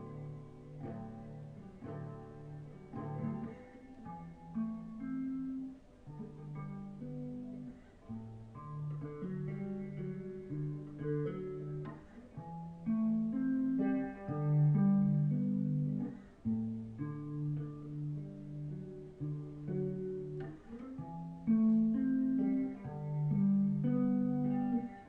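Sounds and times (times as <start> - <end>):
guitar picked notes over bass: 0.0 - 25.0.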